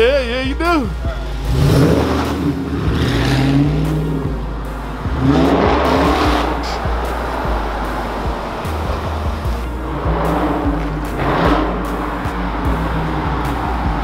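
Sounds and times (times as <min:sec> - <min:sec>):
car exhaust revving: 0:00.0 - 0:14.0.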